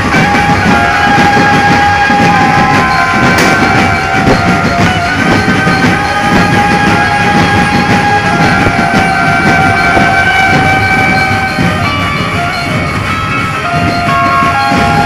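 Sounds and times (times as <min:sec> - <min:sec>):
loud band music over speakers: 0:00.0 - 0:15.0.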